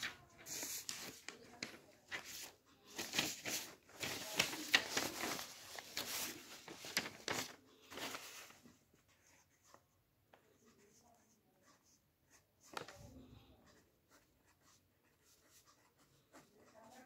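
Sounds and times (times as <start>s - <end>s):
paper rustling: 0.0s - 9.8s, 12.3s - 16.9s.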